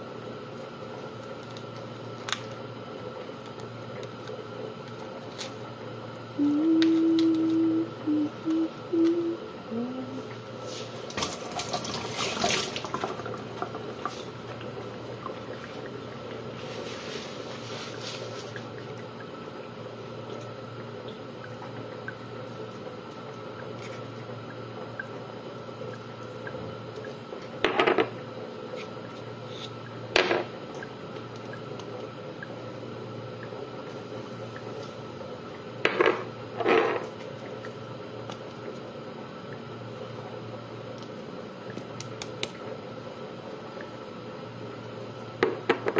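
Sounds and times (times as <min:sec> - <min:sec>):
background hum: 0:00.0 - 0:45.9.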